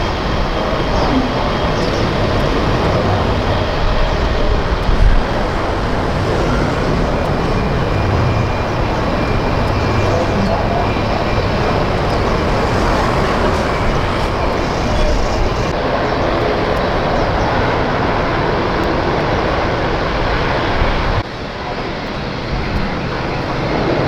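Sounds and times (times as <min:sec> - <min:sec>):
aircraft engines roaring: 0:00.0 - 0:24.0.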